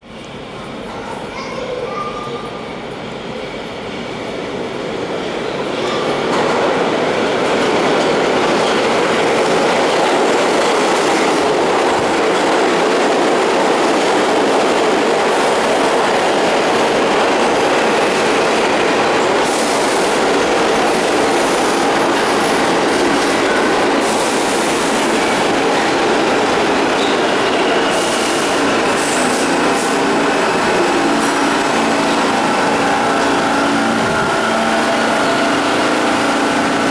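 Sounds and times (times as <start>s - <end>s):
subway train wheels rumbling: 0.0s - 36.9s
clickety-clack over rail joints: 5.8s - 36.9s.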